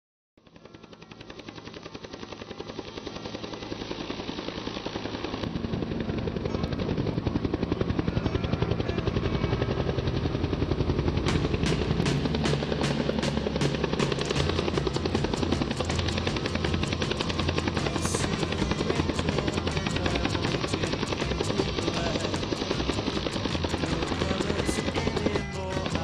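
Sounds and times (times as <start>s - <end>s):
helicopter rotor thumping: 1.1s - 26.0s.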